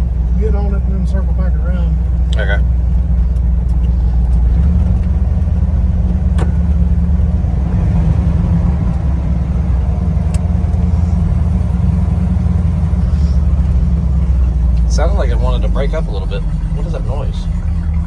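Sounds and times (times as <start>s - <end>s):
pickup engine pulling under throttle: 0.0s - 18.0s
road noise: 0.0s - 18.0s.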